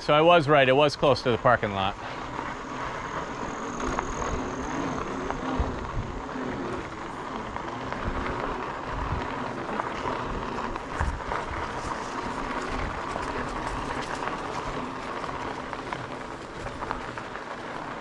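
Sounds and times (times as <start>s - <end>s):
bike tyre and drivetrain noise: 0.0s - 18.0s
wind rumbling on microphone: 0.0s - 18.0s
mid-pitched motor hum: 1.6s - 18.0s.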